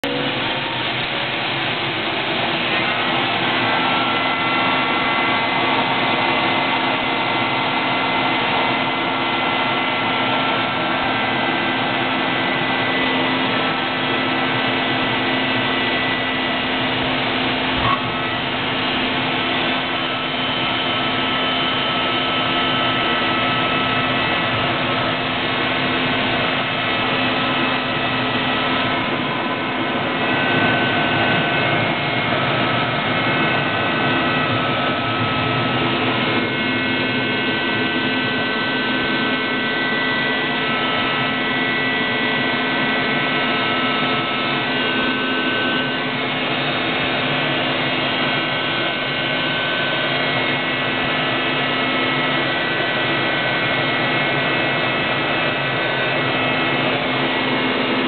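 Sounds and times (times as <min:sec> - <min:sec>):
jet engine rushing and whining: 0:00.0 - 0:58.0.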